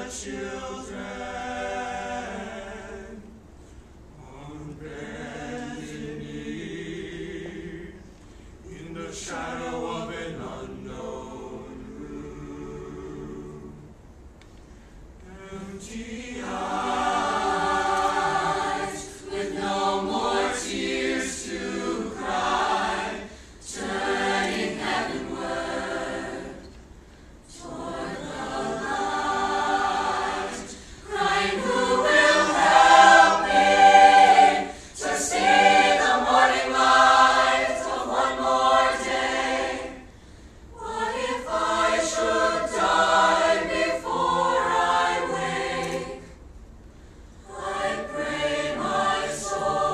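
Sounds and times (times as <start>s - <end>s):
mixed choir singing a cappella: 0.0s - 3.5s, 4.2s - 8.1s, 8.7s - 14.0s, 15.2s - 46.4s, 47.4s - 49.9s.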